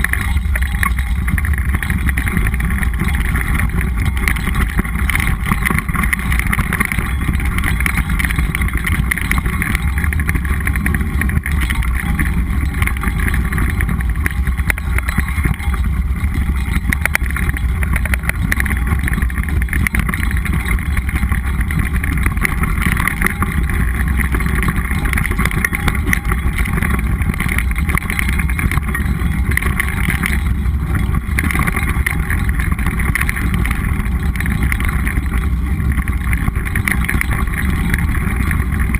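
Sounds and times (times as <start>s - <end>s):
bike rattling clicks: 0.0s - 38.9s
tyres on dirt and stones: 0.0s - 38.9s
wind rumble on microphone: 0.0s - 38.9s.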